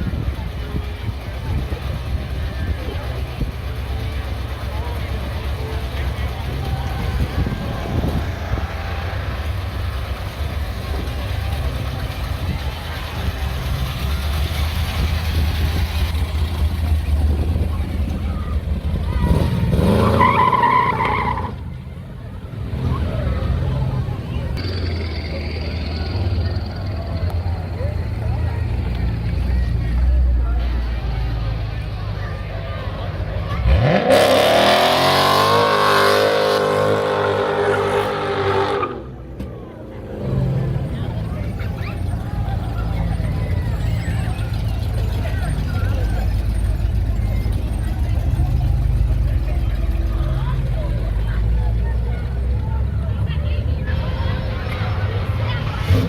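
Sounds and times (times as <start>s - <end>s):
car engine rumbling and revving: 0.0s - 56.0s.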